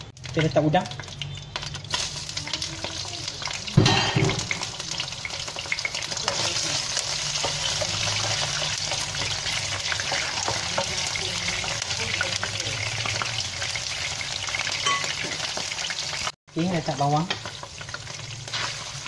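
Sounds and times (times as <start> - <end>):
prawns sizzling in hot oil: 0.0 - 19.0
steady frying crackle: 0.0 - 19.0.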